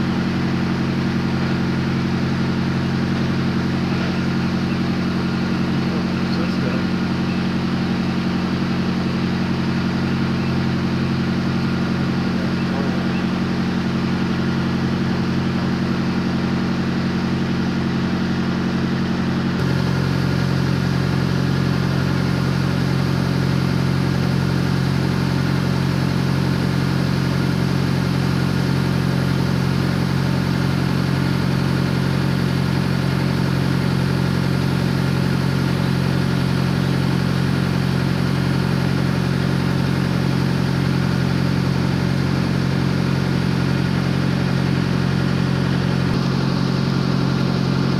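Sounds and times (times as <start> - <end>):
diesel truck engine idling: 0.0 - 47.9
refrigeration unit running: 0.0 - 47.9.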